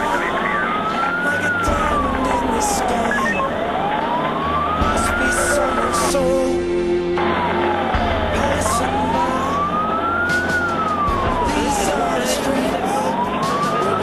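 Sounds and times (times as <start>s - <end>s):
fire engine siren wailing: 0.0s - 14.0s
truck engine running: 0.0s - 14.0s.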